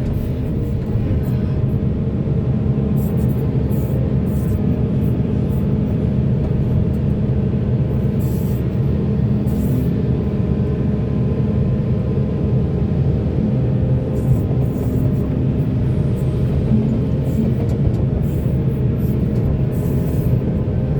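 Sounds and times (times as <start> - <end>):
diesel engine drone: 0.0 - 20.9.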